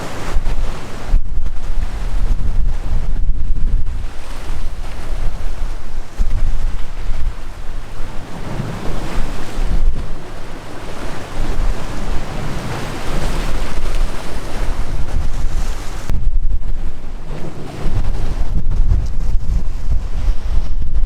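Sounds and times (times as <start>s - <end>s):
sea waves rushing: 0.0s - 21.0s
wind buffeting microphone: 0.0s - 21.0s.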